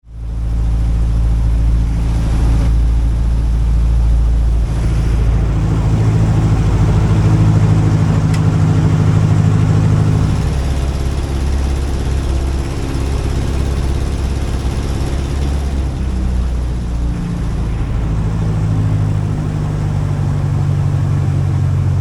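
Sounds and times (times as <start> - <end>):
low wind rumble: 0.0 - 22.0
plane engine and propeller: 0.0 - 22.0.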